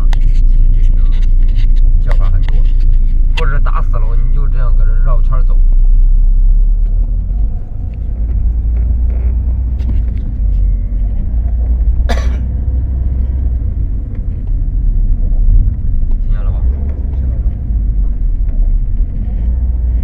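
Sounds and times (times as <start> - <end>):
car rumbling on the move: 0.0 - 20.0.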